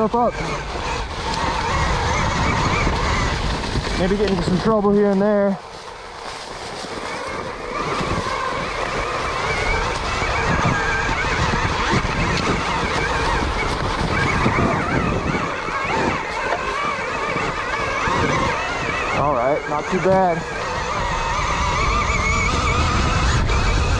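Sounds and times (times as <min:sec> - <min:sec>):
electric motor whine: 0:00.0 - 0:23.9
wind and ground noise: 0:00.0 - 0:23.9.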